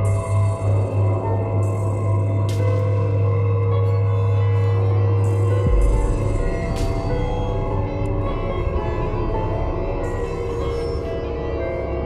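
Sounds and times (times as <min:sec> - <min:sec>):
ambient drone music: 0:00.0 - 0:12.0.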